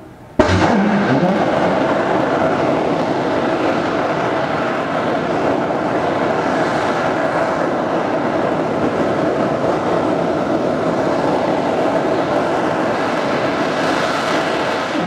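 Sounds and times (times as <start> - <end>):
rocket engine loud rushing: 0.4 - 15.0.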